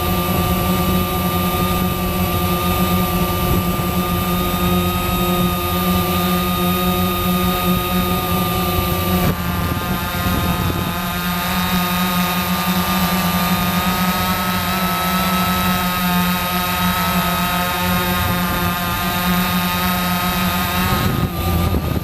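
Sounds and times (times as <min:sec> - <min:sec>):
drone motors whining: 0:00.0 - 0:22.0
wind hissing over microphone: 0:00.0 - 0:22.0.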